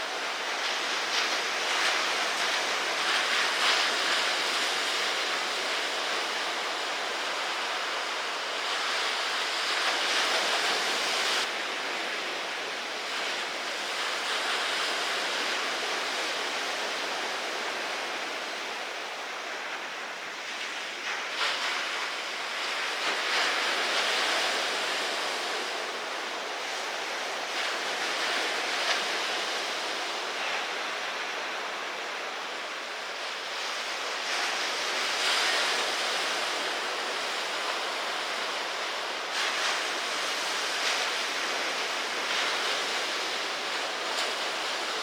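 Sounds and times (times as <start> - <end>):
ocean surf rushing: 0.0 - 45.0.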